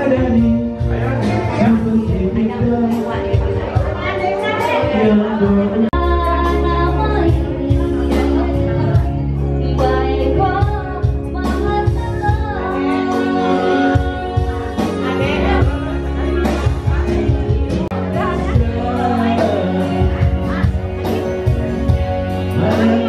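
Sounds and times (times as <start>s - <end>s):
song with singing and bass: 0.0s - 23.0s.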